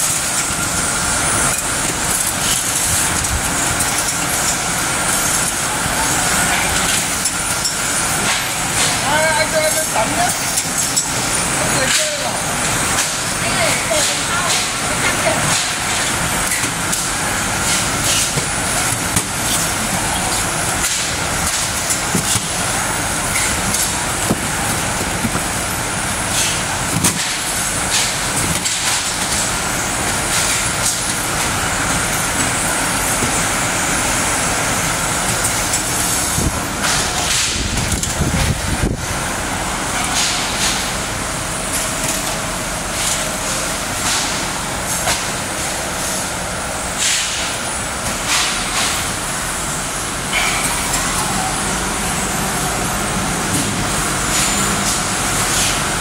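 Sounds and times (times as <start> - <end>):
packaging machinery running: 0.0 - 56.0.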